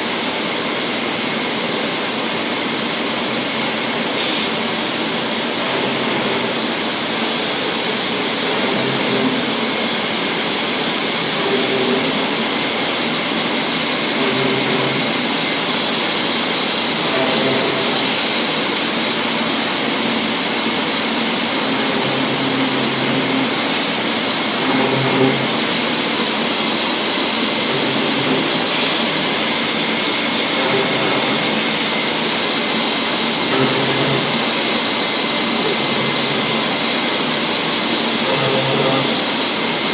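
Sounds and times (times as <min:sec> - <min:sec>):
cnc router machining wood: 0:00.0 - 0:39.9.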